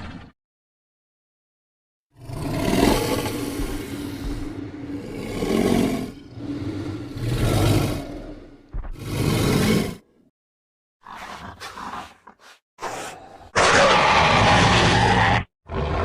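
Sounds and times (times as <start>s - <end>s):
creature rasping rumbling growl: 2.2s - 10.1s, 11.0s - 16.0s.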